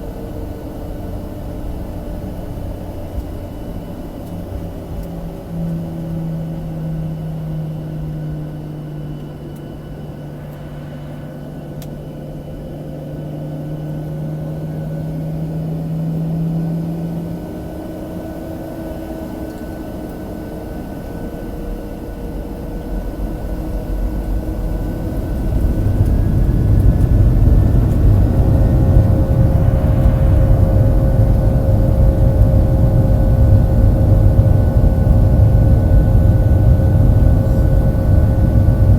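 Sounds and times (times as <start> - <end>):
jet engines humming: 0.0 - 15.9, 16.9 - 38.9.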